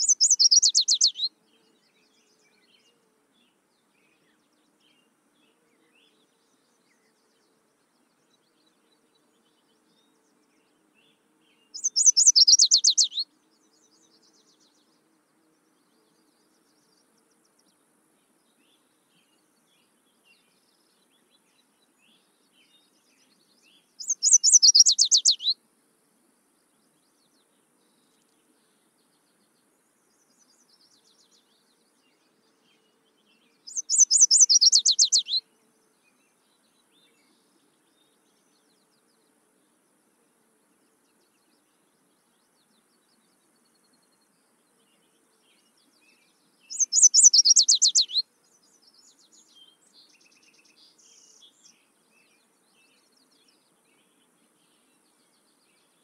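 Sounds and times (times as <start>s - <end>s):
warbler singing: 0.0s - 17.8s, 18.4s - 25.6s, 26.8s - 40.0s, 40.8s - 56.0s.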